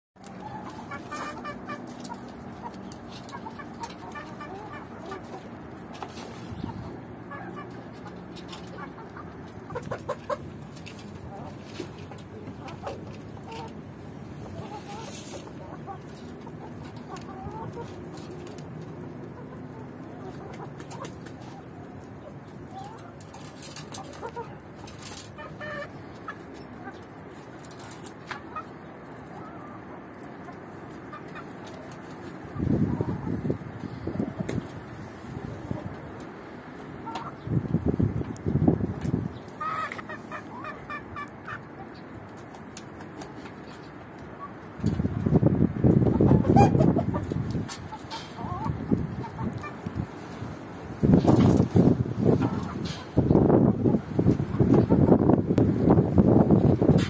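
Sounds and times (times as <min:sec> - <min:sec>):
chickens clucking: 0:00.2 - 0:57.0.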